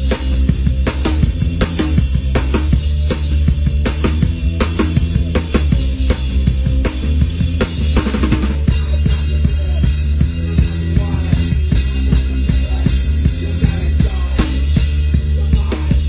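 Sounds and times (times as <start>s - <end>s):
bass drum and snare hits: 0.0s - 16.0s
rock band playing live: 0.0s - 16.0s.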